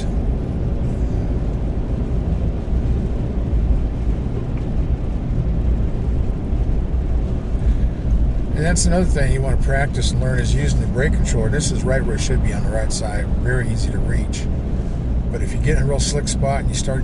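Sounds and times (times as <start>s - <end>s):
diesel truck and tyres rumbling: 0.0s - 17.0s.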